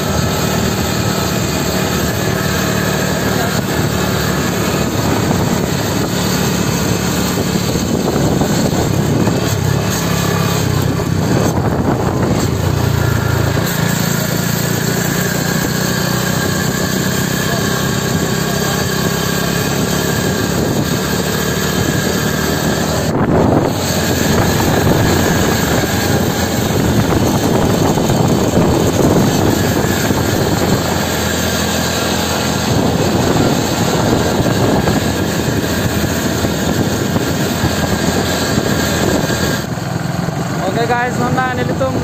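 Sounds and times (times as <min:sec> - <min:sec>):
motorcycle engine drone: 0:00.0 - 0:42.0
wind noise on microphone: 0:00.0 - 0:42.0.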